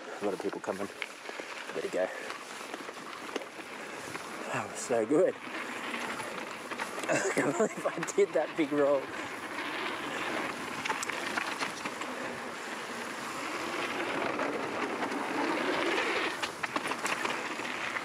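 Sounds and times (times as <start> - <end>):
bike clicks and rattles: 0.0 - 18.0
tyres rushing on dirt and gravel: 0.0 - 18.0
wind: 0.0 - 18.0.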